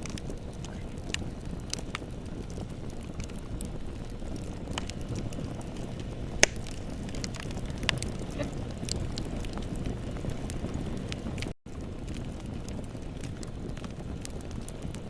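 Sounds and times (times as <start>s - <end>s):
bonfire rumbling: 0.0s - 15.0s
fire crackling: 0.0s - 15.0s
loud pop of fire: 0.0s - 15.0s.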